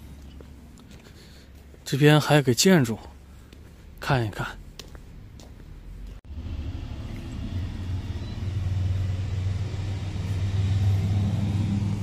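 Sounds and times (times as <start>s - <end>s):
vehicle engine rumble: 0.0s - 2.2s, 2.9s - 12.0s.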